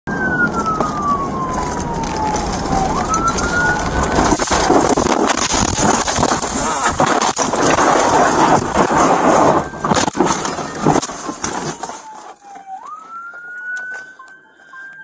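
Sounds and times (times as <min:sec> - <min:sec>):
police siren wailing: 0:00.1 - 0:15.0.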